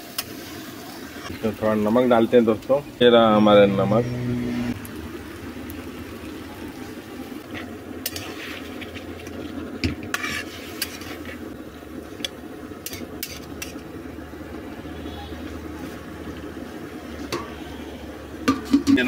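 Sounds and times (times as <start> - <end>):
vegetables sizzling in a pan: 0.0 - 19.0.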